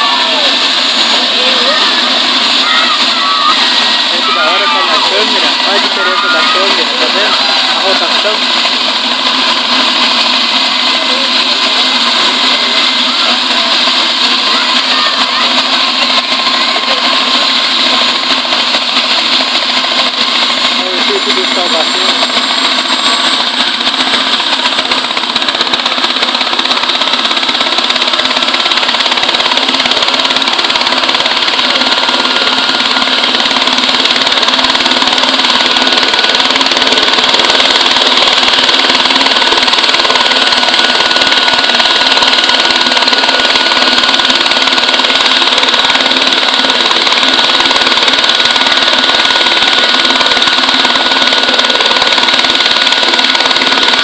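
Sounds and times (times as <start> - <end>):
helicopter turbine and rotor: 0.0 - 54.0.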